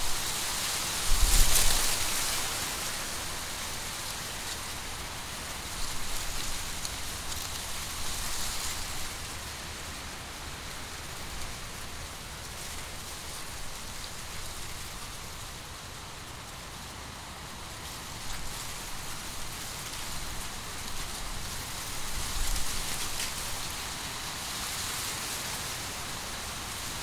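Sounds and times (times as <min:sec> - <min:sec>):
wind rustling dry corn leaves: 0:00.0 - 0:27.0.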